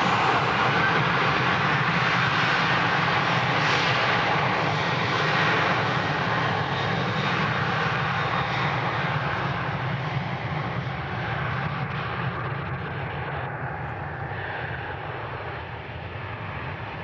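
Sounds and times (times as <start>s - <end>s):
jet engines at takeoff power: 0.0s - 17.0s.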